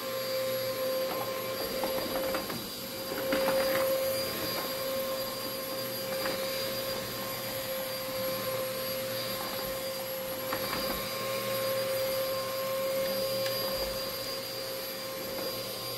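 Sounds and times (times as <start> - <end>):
vacuum cleaner whine: 0.0 - 15.9.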